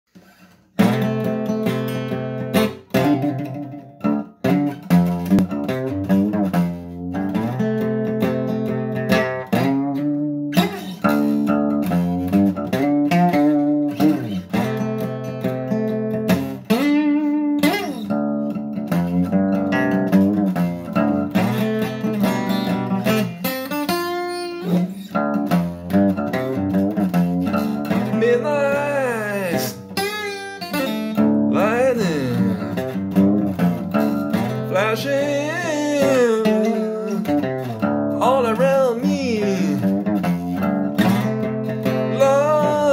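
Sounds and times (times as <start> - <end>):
acoustic guitar strumming: 0.2 - 42.9.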